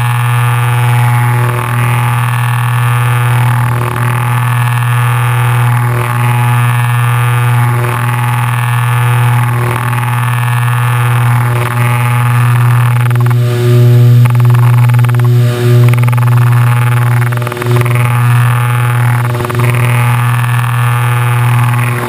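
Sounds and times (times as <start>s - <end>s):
aircraft piston engines droning: 0.0s - 22.0s.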